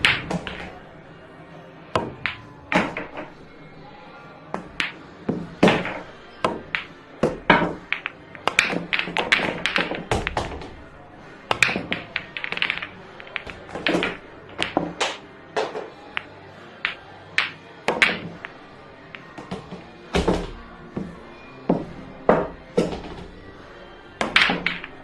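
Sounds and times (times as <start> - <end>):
billiard balls clacking: 0.0 - 1.1, 1.9 - 3.9, 4.5 - 25.0.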